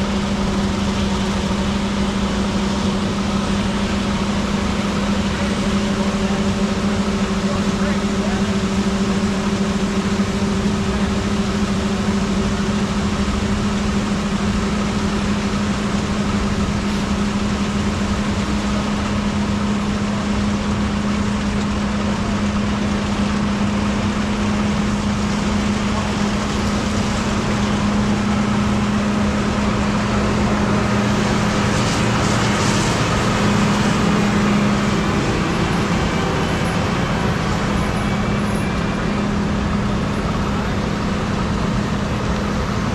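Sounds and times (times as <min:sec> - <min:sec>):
diesel machinery engine drone: 0:00.0 - 0:42.9.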